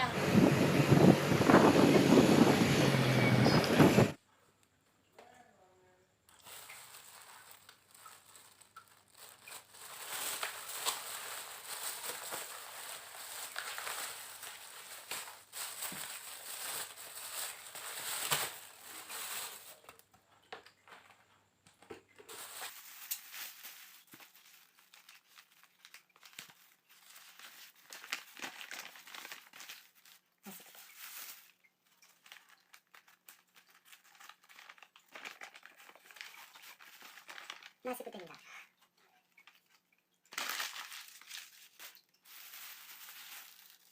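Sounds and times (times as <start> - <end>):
bags and wrappers crinkling: 6.3 - 38.7, 39.3 - 43.9.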